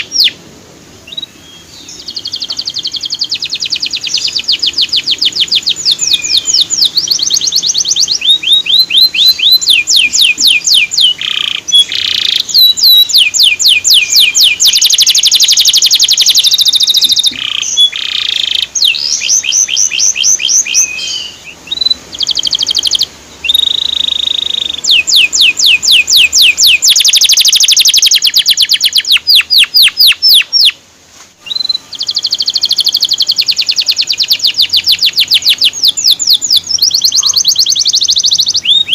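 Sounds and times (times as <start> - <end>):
canary singing: 0.0 - 30.8, 31.4 - 38.9.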